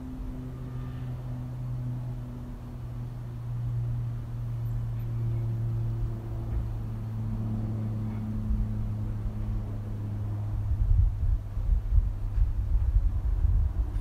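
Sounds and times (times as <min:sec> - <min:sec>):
propeller aircraft droning overhead: 0:00.0 - 0:14.0.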